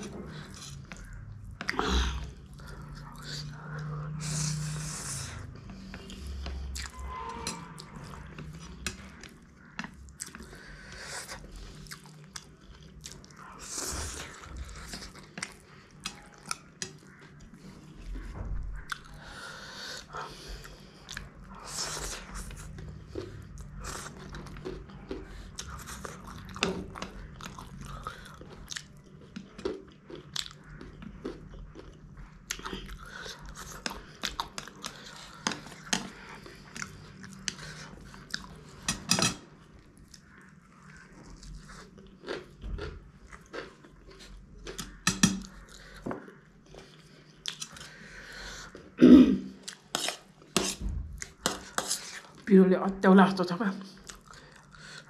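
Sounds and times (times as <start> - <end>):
biting and chewing food: 7.6 - 52.4.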